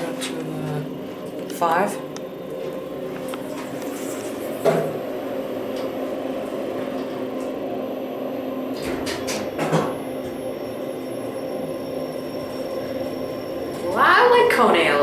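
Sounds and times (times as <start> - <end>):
elevator hum: 0.0 - 15.0.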